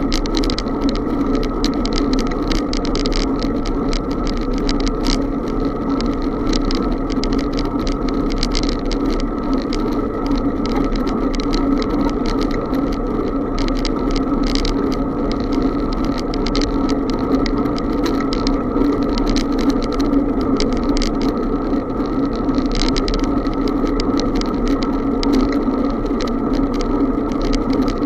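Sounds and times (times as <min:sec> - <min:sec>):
bicycle clicks and rattles: 0:00.0 - 0:28.0
bicycle riding noise: 0:00.0 - 0:28.0.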